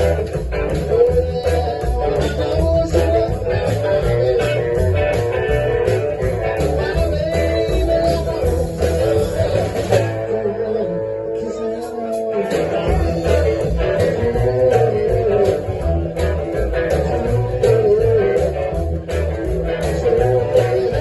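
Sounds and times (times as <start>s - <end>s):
drum beat: 0.0s - 10.2s, 12.1s - 21.0s
bass line: 0.0s - 21.0s
wavering electric guitar lead: 0.0s - 21.0s.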